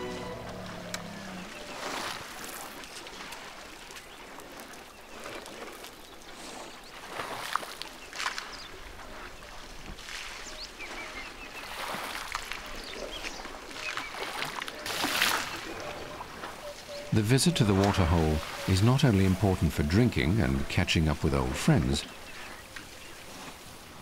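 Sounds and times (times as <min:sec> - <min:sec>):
water splashing and dribbling: 0:00.0 - 0:24.0.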